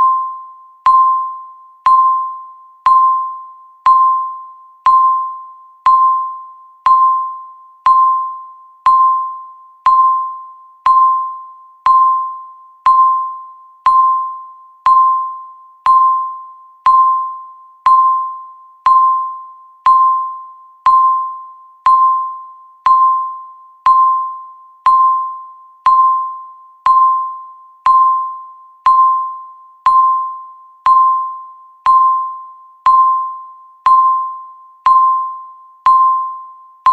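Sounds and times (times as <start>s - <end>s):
countdown timer beeps: 0.0s - 36.9s.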